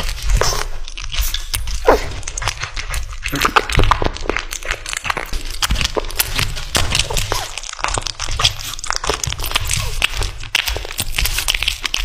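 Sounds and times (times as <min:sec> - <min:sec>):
kitten chewing raw meat: 0:00.0 - 0:12.0.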